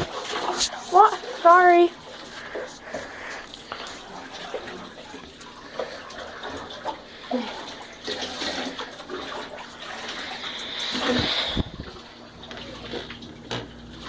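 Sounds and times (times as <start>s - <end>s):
water running in bathtub: 0.0s - 14.0s.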